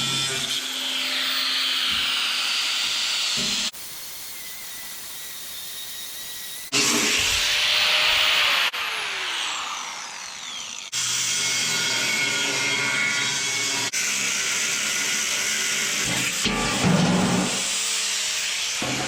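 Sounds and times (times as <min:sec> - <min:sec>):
power tool cutting steel: 0:00.0 - 0:19.0.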